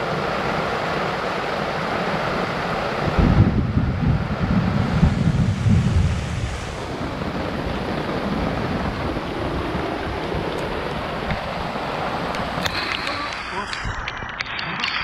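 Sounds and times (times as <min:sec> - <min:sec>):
wind buffeting microphone: 0:00.0 - 0:14.4
steady rain: 0:00.0 - 0:15.0.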